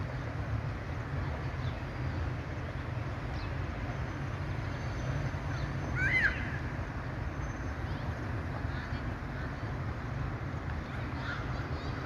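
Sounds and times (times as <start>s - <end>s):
distant vehicles rumbling: 0.0s - 12.0s.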